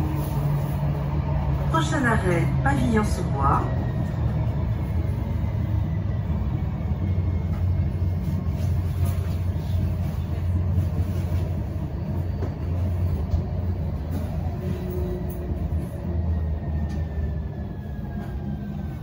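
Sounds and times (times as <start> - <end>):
tram running rumble: 0.0 - 19.0.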